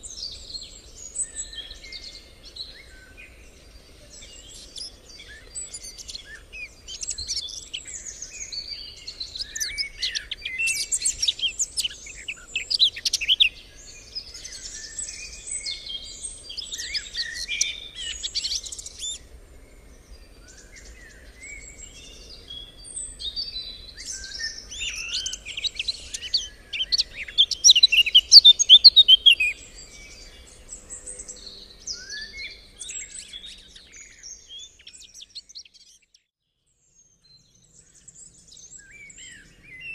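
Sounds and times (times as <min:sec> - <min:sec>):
birds chirping and trilling: 0:00.0 - 0:36.3, 0:36.9 - 0:39.9.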